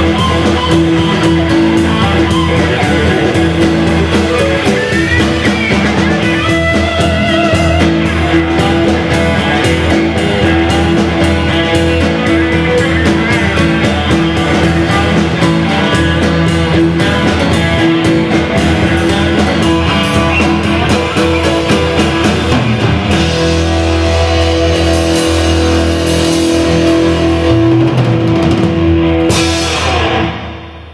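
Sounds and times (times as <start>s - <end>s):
bass guitar: 0.0s - 30.9s
drum kit: 0.0s - 30.9s
keyboards: 0.0s - 30.9s
lead electric guitar: 0.0s - 30.9s.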